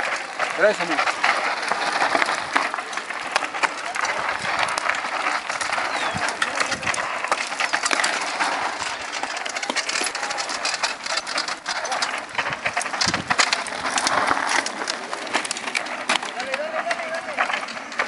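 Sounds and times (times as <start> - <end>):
mountain bikes on gravel trail: 0.0 - 18.0.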